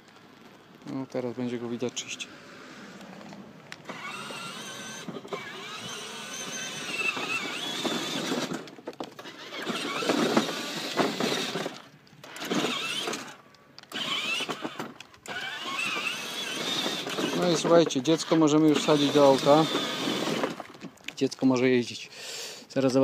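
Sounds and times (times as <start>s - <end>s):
toy car electric motors running: 1.6s - 21.0s.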